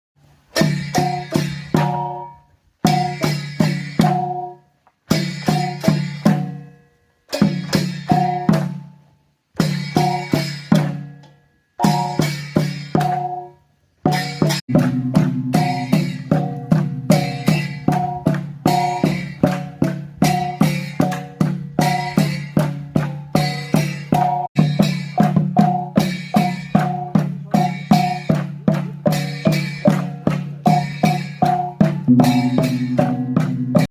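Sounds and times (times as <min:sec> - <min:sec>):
bamboo percussion rhythm: 0:00.2 - 0:33.9.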